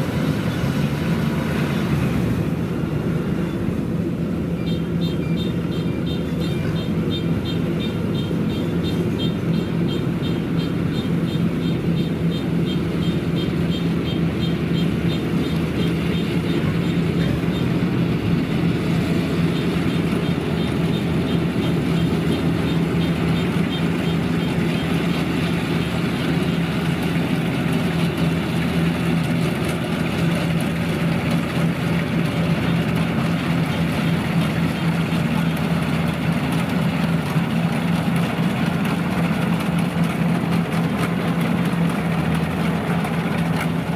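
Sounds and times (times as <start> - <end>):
diesel engine droning: 0.0 - 43.9.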